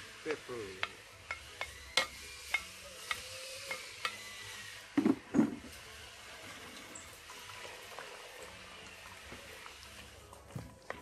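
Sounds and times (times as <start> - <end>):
vegetables sizzling in a pot: 0.0 - 10.5.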